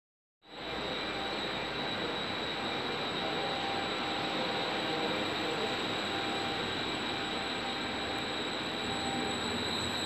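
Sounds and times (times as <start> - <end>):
electric train rolling slowly: 0.4 - 10.0
faint high whine: 0.4 - 10.0.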